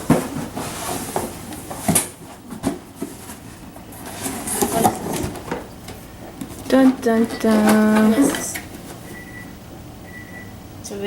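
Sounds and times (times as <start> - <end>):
packaging rustling and scraping: 0.0 - 9.2.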